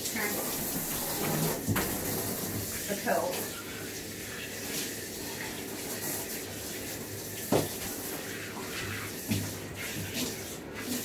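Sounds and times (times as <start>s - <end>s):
water sprayer running: 0.0s - 11.0s.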